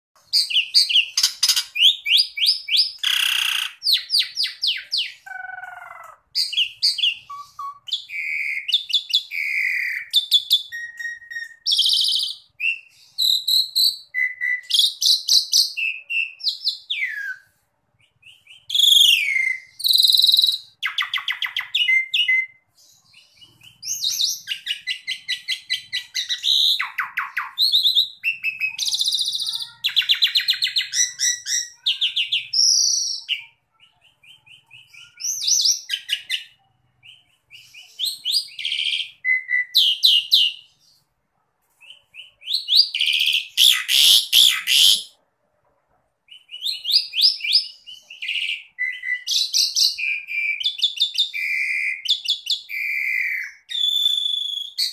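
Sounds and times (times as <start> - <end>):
myna bird singing: 0.2 - 41.1, 41.7 - 45.2, 46.3 - 54.9.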